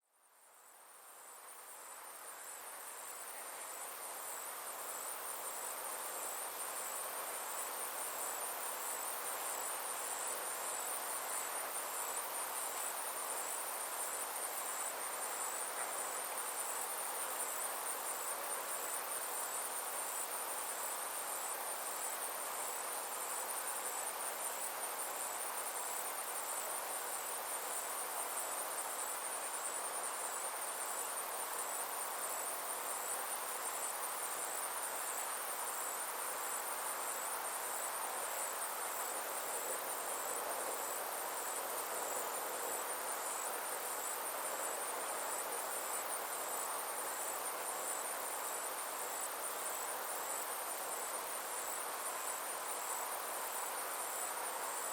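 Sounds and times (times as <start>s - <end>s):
low hiss: 0.0s - 54.9s
insects trilling: 0.6s - 54.9s.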